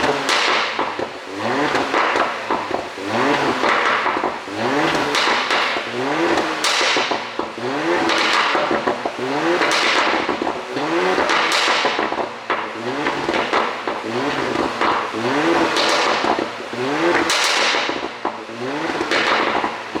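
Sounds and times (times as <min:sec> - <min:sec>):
car engine revving: 0:00.0 - 0:20.0
crackling exhaust pops: 0:00.0 - 0:20.0.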